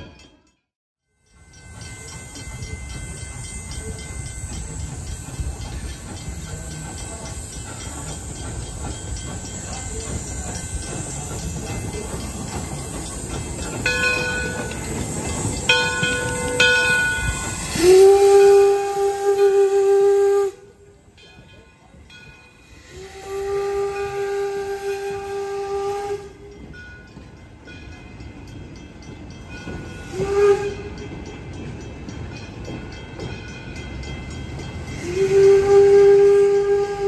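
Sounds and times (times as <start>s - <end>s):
steam locomotive passing: 0.0s - 37.0s.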